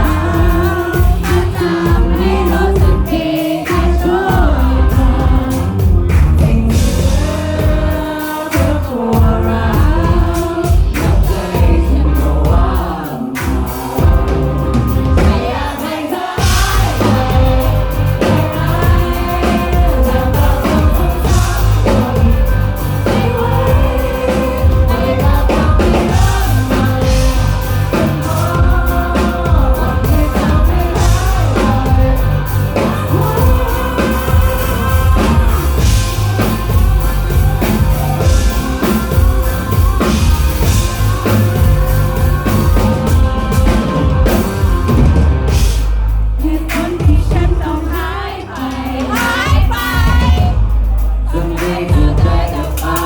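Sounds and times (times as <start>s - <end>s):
crowd singing along: 0.0s - 53.0s
live rock band with singer: 0.0s - 53.0s.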